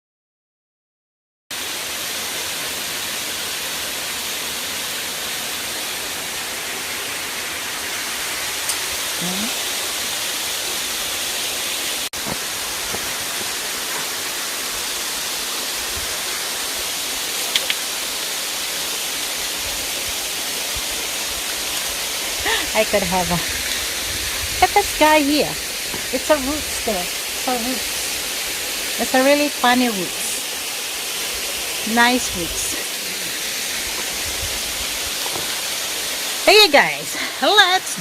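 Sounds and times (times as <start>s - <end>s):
waterfall rushing: 1.6s - 38.0s.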